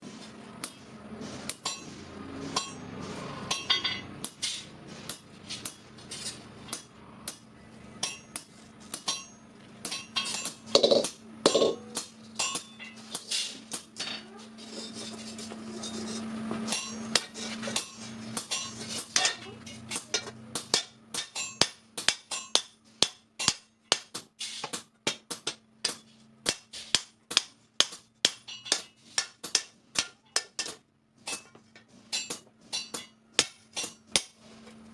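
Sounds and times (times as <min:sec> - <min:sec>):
hammer striking sheet iron: 0:00.6 - 0:14.2, 0:15.8 - 0:34.5.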